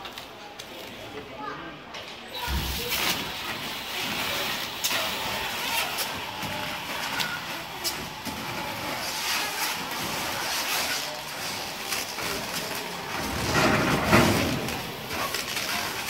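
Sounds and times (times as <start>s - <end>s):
stretch film crackling: 2.4s - 16.0s
wrapping machine turning: 2.4s - 16.0s.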